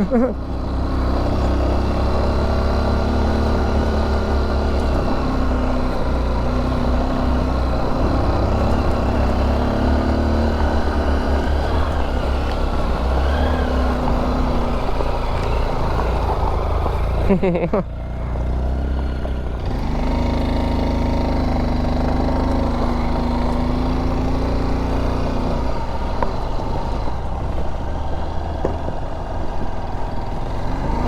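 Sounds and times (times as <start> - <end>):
motorcycle engine under load: 0.0 - 31.0.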